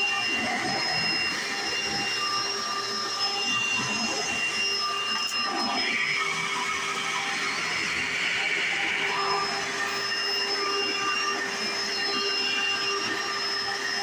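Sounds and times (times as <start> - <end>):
vacuum cleaner whining: 0.0 - 14.0.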